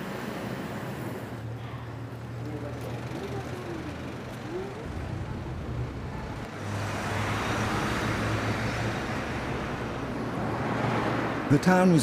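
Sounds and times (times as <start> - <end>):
vehicle passing close: 0.0 - 11.9.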